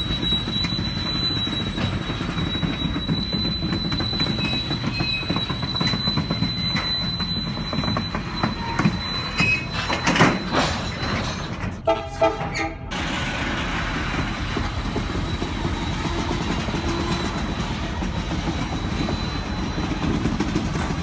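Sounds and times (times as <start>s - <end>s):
high wheel squeal: 0.0s - 21.0s
rolling train rumble: 0.0s - 21.0s.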